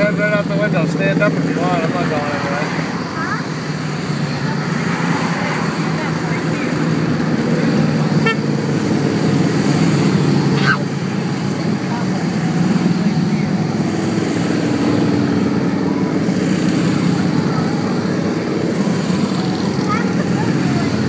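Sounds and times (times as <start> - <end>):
motorcycles riding past: 0.0 - 21.0.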